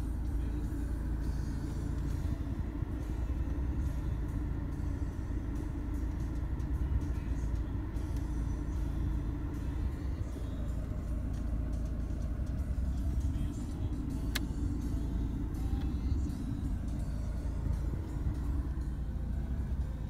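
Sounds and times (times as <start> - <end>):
low rumble in car cabin: 0.0 - 20.0.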